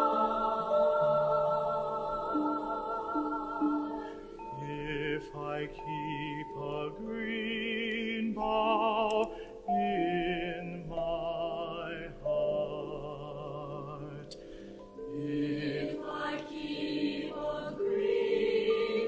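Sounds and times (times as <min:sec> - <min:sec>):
person singing with vibrato: 0:00.0 - 0:19.0
sustained accompanying tones: 0:00.0 - 0:19.0.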